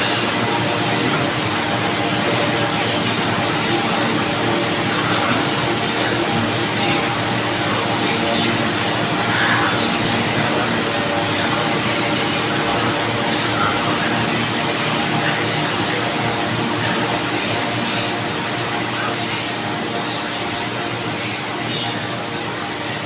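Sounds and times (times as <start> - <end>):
electric fan running: 0.0 - 23.0.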